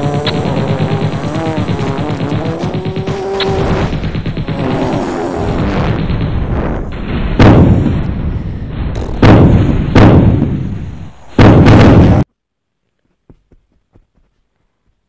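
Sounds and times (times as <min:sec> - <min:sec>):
heavy rumble: 0:00.0 - 0:12.3
loud distorted booms: 0:00.0 - 0:12.3.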